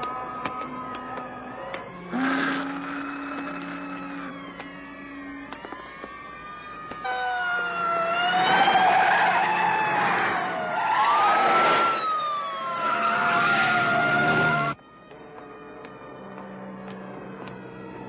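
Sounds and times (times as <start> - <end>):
car engine and tyre noise: 0.0 - 18.0
police sirens wailing: 0.0 - 18.0.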